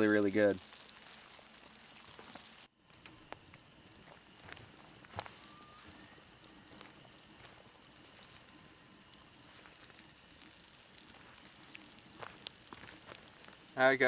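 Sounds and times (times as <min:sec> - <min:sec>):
fish sizzling in a pan: 0:00.0 - 0:14.0
oil popping and crackling: 0:00.0 - 0:14.0.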